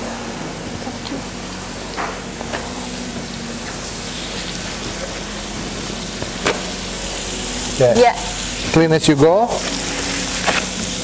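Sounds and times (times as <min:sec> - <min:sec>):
meat sizzling in oil: 0:01.4 - 0:11.0.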